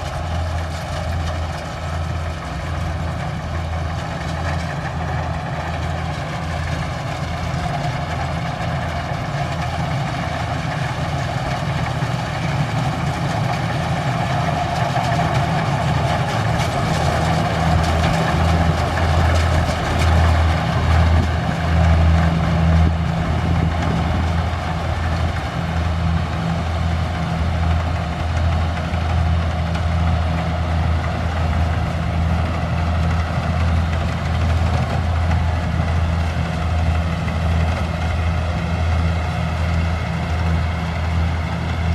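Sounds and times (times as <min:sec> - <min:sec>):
combine harvester diesel engine: 0:00.0 - 0:41.9.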